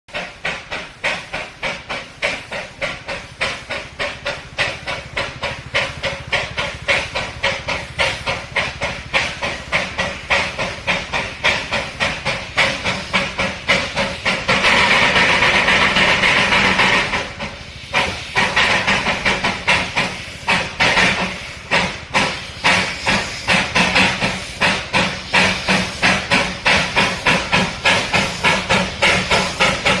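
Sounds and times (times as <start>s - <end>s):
steam hissing: 0.1s - 30.0s
steam locomotive chuffing: 0.1s - 30.0s.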